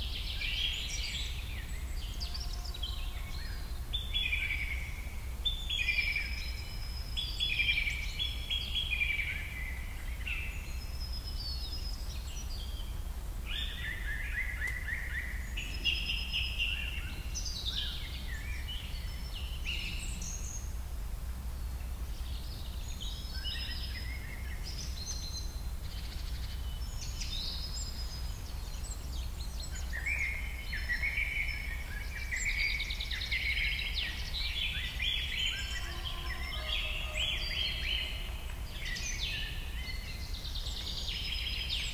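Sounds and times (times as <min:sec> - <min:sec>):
birds chirping and singing: 0:00.0 - 0:20.8, 0:21.6 - 0:41.9
steady low hum: 0:00.0 - 0:41.9.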